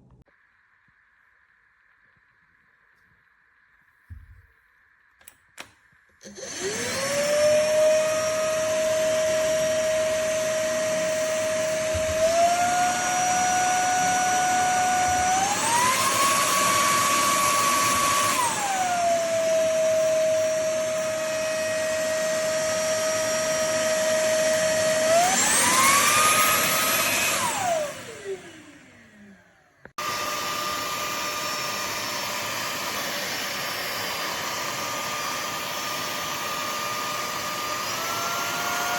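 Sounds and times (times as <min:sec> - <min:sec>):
stick vacuum motor whine: 0:04.1 - 0:38.9.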